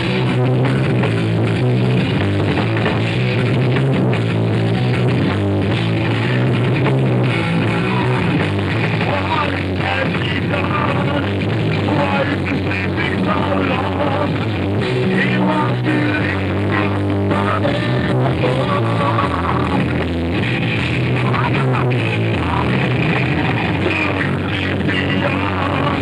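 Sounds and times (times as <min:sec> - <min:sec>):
electric guitar: 0:00.0 - 0:26.0
rock band playing live: 0:00.0 - 0:26.0.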